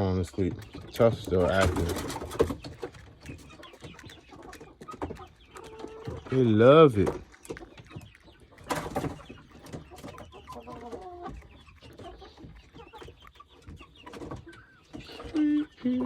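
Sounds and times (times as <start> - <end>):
hens clucking and calling: 0.0 - 16.0.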